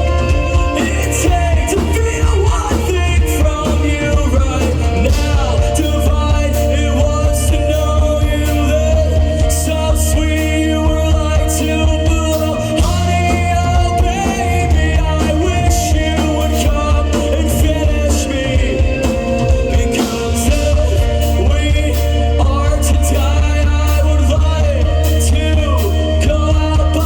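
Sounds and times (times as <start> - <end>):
live rock band playing: 0.0 - 27.0
person singing: 0.0 - 27.0.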